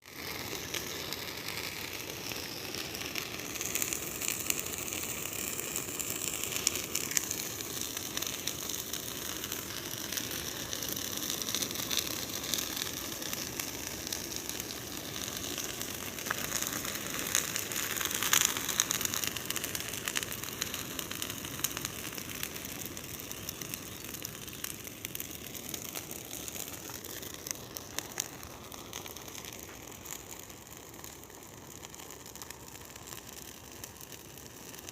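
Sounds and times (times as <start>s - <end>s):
bonfire crackling and hissing: 0.0s - 34.9s.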